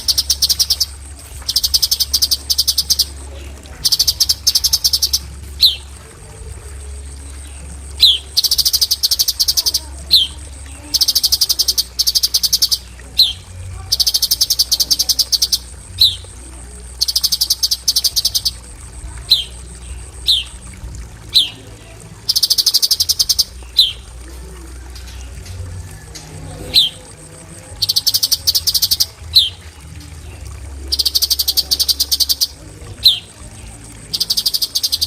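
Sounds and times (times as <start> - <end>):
songbird trills and whistles: 0.0 - 5.9, 6.7 - 16.4, 17.0 - 20.6, 21.3 - 21.6, 22.2 - 24.1, 24.8 - 27.1, 27.8 - 29.6, 30.8 - 35.0.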